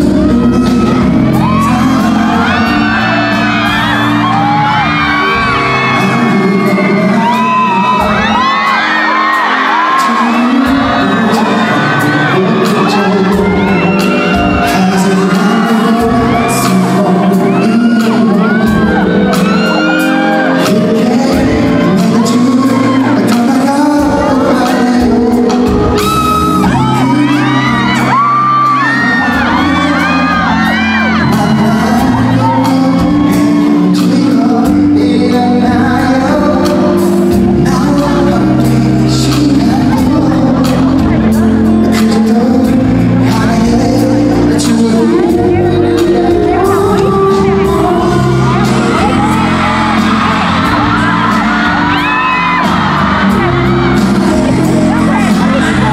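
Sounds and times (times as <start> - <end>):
audience screaming and cheering: 0.0 - 55.9
live pop music: 0.0 - 55.9
man singing into microphone: 0.0 - 55.9.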